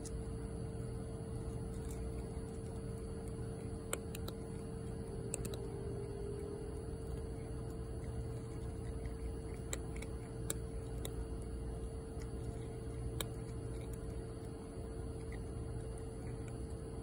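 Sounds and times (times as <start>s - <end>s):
cat crunching dry kibble: 0.0s - 17.0s
steady hum: 0.0s - 17.0s.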